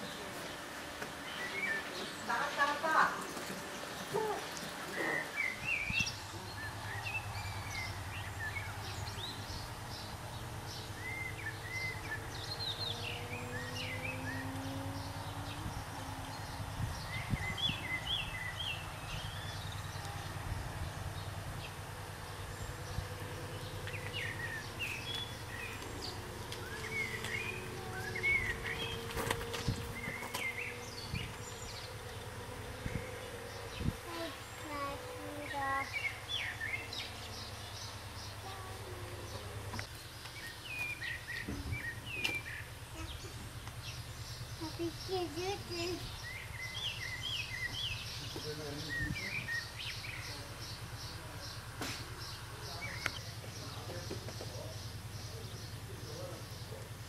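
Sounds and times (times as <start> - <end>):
songbirds chirping: 0.0 - 57.0
steady low hum: 0.0 - 57.0.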